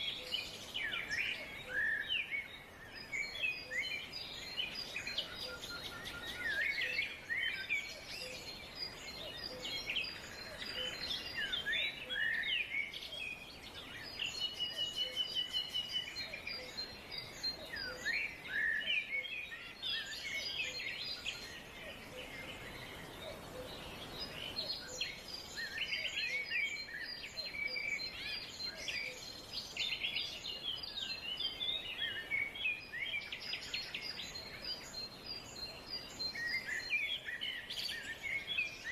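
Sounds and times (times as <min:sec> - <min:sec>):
forest background hiss: 0:00.0 - 0:38.9
songbirds singing and chirping: 0:00.0 - 0:38.9.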